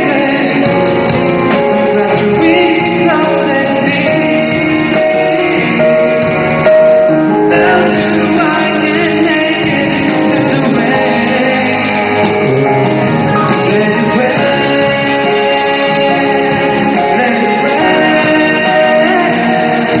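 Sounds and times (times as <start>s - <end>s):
backing music: 0.0s - 20.0s
man singing: 0.0s - 20.0s.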